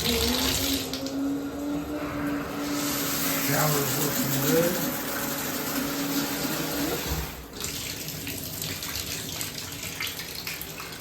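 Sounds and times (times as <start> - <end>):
shower spraying into bathtub: 0.0 - 1.3, 2.6 - 11.0.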